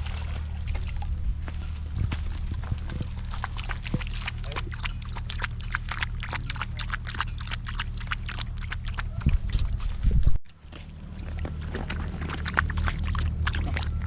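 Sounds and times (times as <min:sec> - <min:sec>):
dogs chewing and lapping: 0:00.0 - 0:14.0
low hum: 0:00.0 - 0:14.0.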